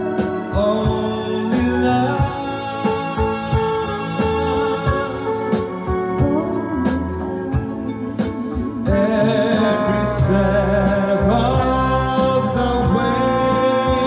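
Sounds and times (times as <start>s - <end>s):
musical accompaniment over loudspeaker: 0.0s - 14.0s
person singing into a microphone: 0.0s - 14.0s.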